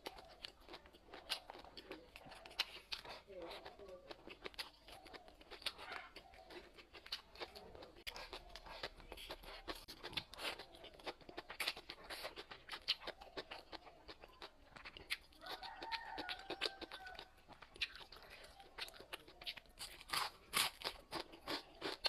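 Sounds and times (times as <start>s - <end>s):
mouth chewing and smacking: 0.0s - 22.0s.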